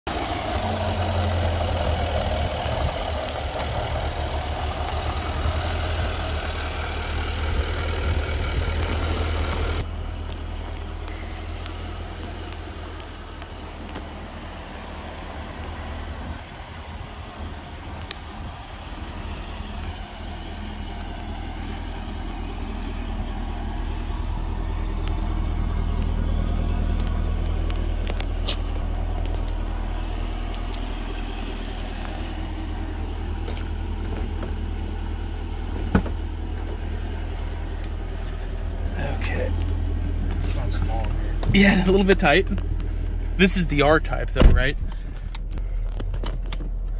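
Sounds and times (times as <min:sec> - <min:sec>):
car engine idling: 0:00.1 - 0:46.9.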